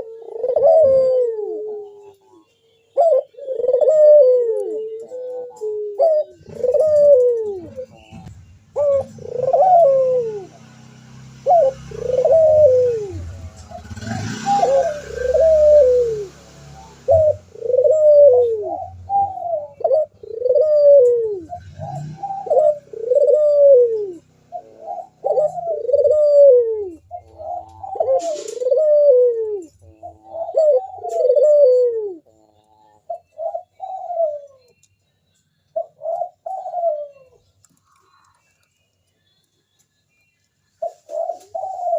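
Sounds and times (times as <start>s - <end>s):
dove cooing: 0.0s - 34.8s, 35.7s - 38.5s, 40.8s - 41.9s.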